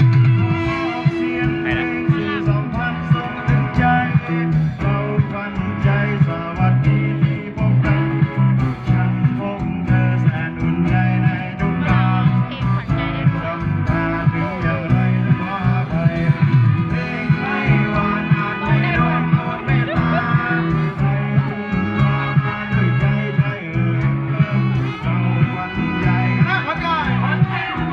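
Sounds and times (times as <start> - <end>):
bass line: 0.0 - 27.9
drum hits: 0.0 - 27.9
guitar: 0.0 - 27.9.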